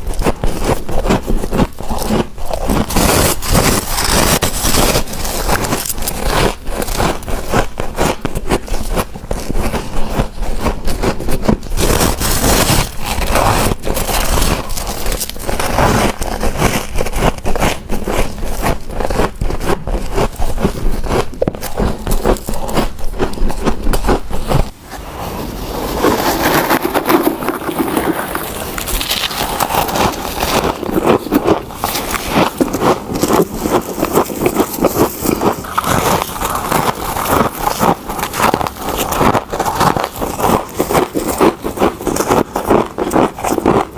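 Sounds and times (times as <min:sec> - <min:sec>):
frost being chewed: 0:00.0 - 0:24.9, 0:25.8 - 0:43.9.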